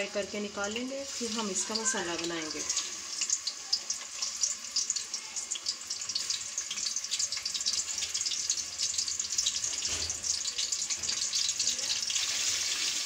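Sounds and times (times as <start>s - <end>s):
meat sizzling and crackling: 0.0s - 13.0s
steady frying hiss: 0.0s - 13.0s.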